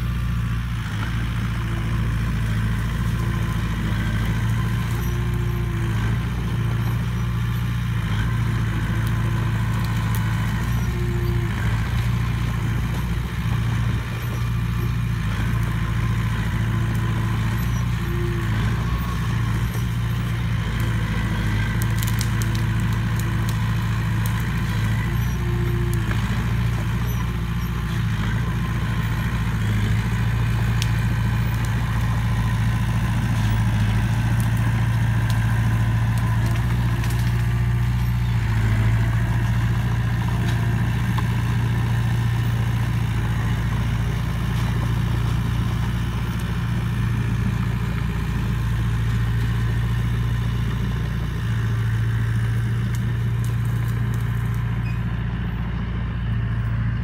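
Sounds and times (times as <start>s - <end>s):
bulldozer diesel engine running: 0.0s - 57.0s
brush crackling: 2.5s - 55.0s.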